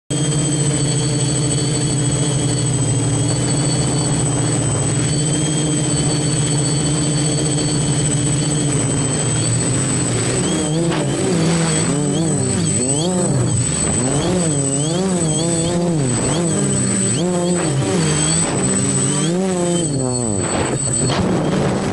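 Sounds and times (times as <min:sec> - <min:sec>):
quadcopter motors buzzing: 0:00.1 - 0:21.9.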